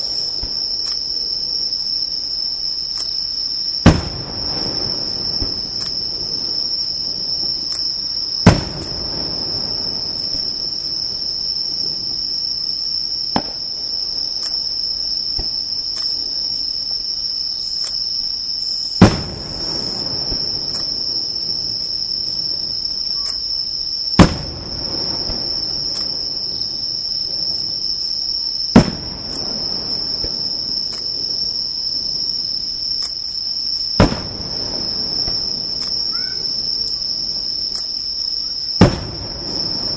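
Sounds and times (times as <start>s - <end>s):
high-pitched insect trill: 0.0s - 39.9s
fireworks bangs with echo: 3.8s - 16.7s, 19.0s - 33.0s, 33.8s - 39.9s.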